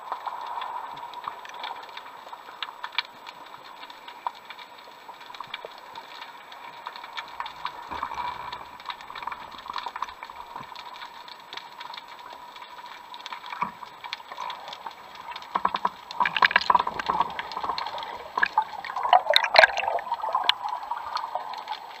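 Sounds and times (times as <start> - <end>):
crackling and gurgling bursts: 0.0 - 22.0
sharp clicks and crackles: 0.0 - 22.0.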